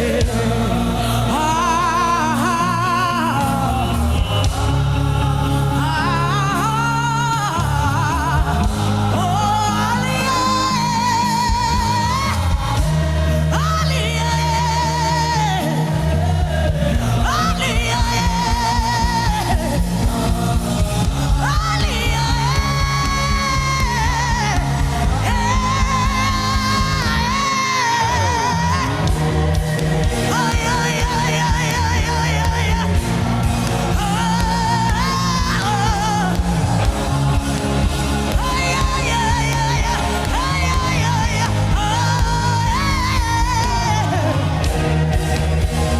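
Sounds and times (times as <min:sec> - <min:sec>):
band playing gospel music: 0:00.0 - 0:45.9.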